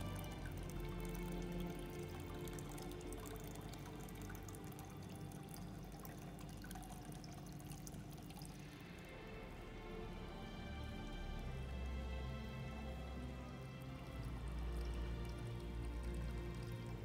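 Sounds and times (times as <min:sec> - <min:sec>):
faint music: 0:00.0 - 0:17.0
water trickling into a basin: 0:00.0 - 0:17.0.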